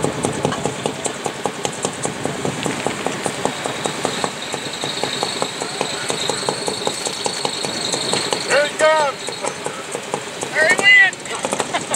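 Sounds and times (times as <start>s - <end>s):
steady high whine: 0.0s - 11.9s
tractor engine idling: 0.0s - 11.9s.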